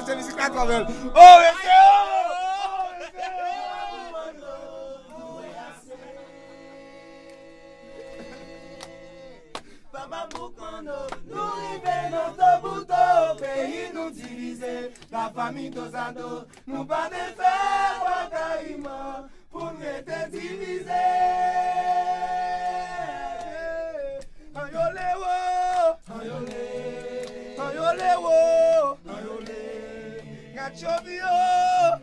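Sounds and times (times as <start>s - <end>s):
men singing a cappella in harmony: 0.0s - 32.0s.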